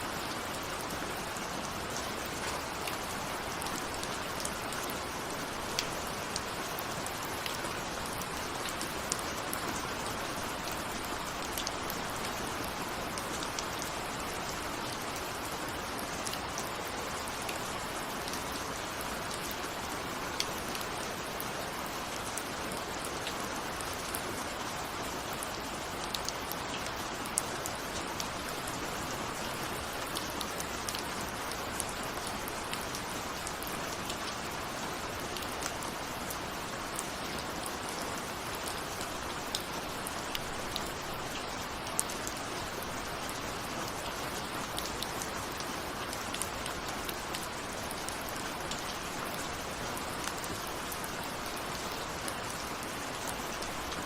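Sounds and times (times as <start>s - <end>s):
steady rain hiss: 0.0s - 54.0s
raindrops ticking on a surface: 0.1s - 54.0s.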